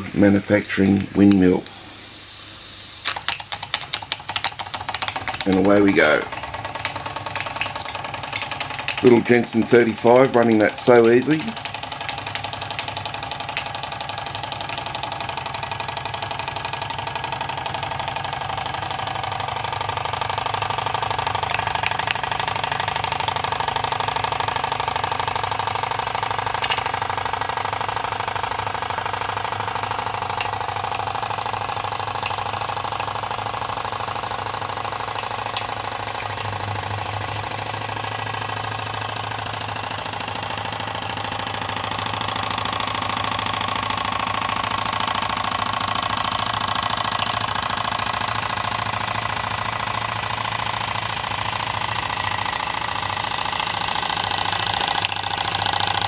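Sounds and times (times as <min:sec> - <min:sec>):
toy steam engine running: 0:03.1 - 0:56.0.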